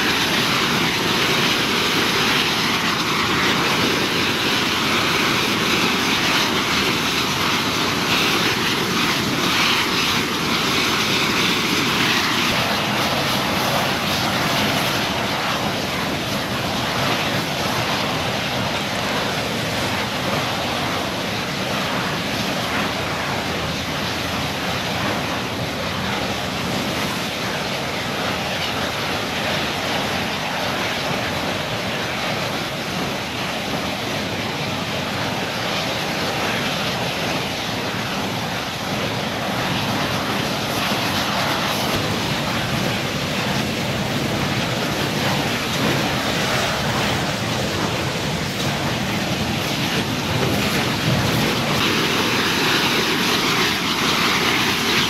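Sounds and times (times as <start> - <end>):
gas fire roaring: 0.0 - 55.0.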